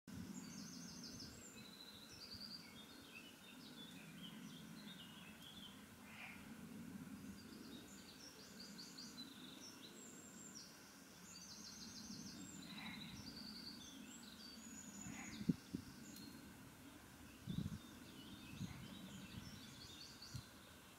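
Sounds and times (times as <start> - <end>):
songbirds chirping and trilling: 0.1 - 20.9.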